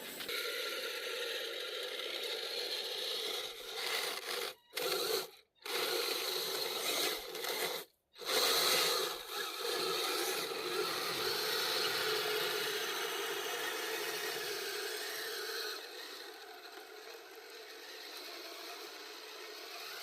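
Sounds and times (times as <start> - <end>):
toy car motor ratcheting: 0.0 - 20.0.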